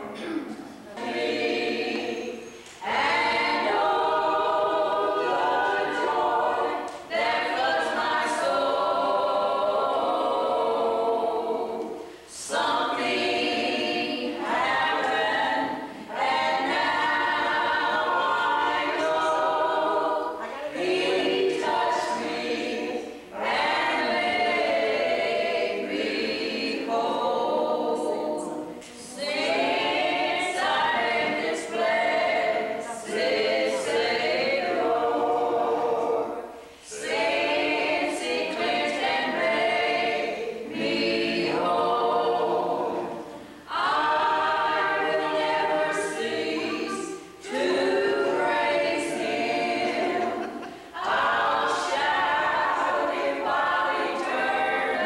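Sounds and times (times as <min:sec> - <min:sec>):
group singing a cappella: 0:00.0 - 0:55.0.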